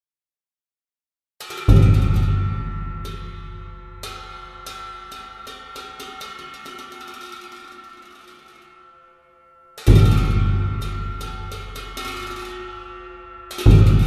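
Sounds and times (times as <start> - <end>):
cymbal strokes quickening: 1.4 - 14.0
deep drum stroke ringing: 1.5 - 8.8, 9.8 - 14.0.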